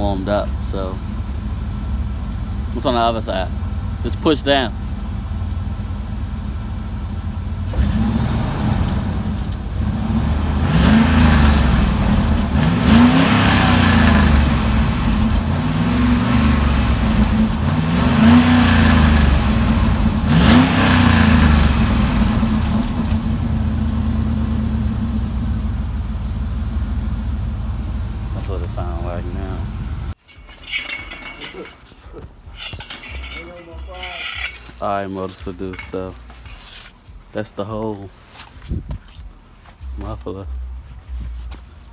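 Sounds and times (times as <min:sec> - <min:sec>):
car engine idling and revving: 0:00.0 - 0:30.2, 0:38.2 - 0:41.9.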